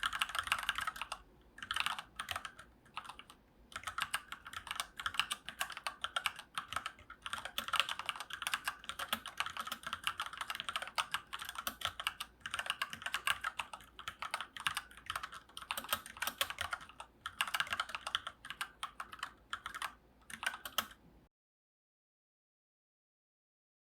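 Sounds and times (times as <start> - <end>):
mechanical keyboard typing: 0.0 - 21.0.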